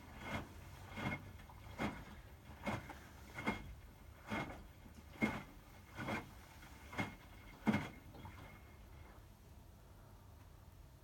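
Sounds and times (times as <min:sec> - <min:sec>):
washing machine load swishing: 0:00.0 - 0:09.2.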